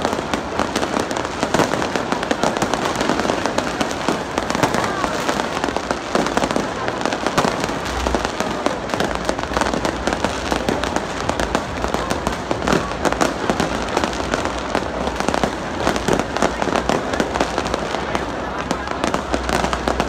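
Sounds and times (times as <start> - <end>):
fireworks bursting overhead: 0.0 - 20.0.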